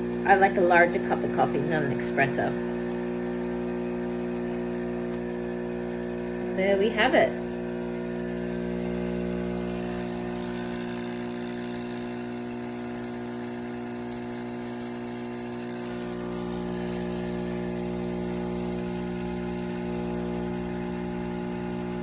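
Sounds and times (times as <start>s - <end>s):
espresso machine pump humming: 0.0s - 22.0s.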